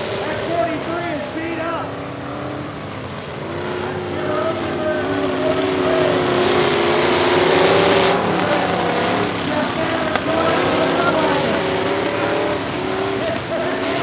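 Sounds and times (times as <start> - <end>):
truck engines running under load: 0.0 - 14.0.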